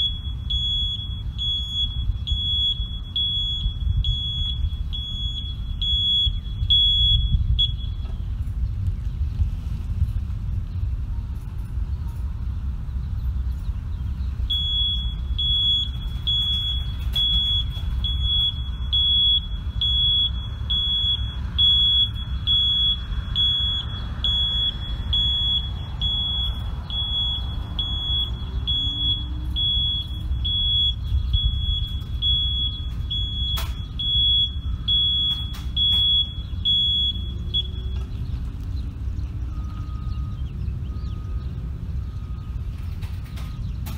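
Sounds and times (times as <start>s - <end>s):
backup alarm beeping: 0.0s - 8.6s, 14.3s - 43.9s
low engine rumble: 0.0s - 43.9s.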